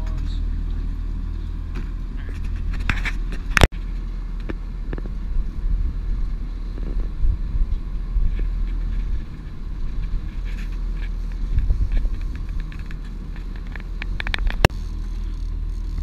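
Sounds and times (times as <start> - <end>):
boat engine running: 0.0 - 16.0
wind and water hiss: 0.0 - 16.0.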